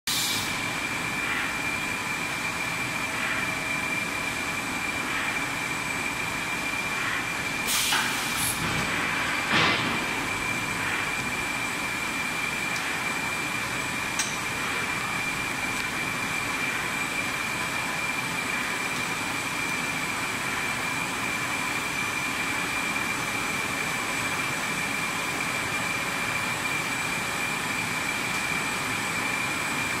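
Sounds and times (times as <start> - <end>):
high-pitched whine: 0.1 - 30.0
machinery hum: 0.1 - 30.0.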